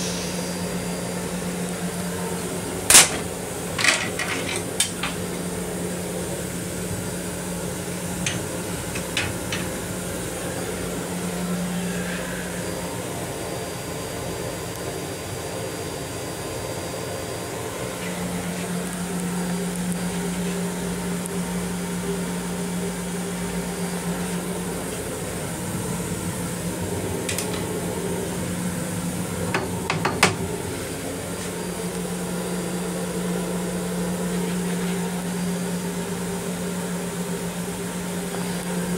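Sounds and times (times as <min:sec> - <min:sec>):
train mechanical hum and rumble: 0:00.0 - 0:38.9.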